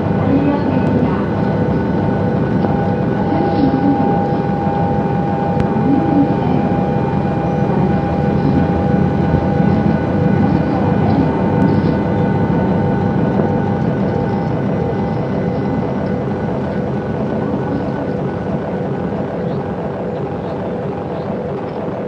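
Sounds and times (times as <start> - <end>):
airplane cabin drone: 0.0 - 22.0
constant hum tones: 0.0 - 22.0.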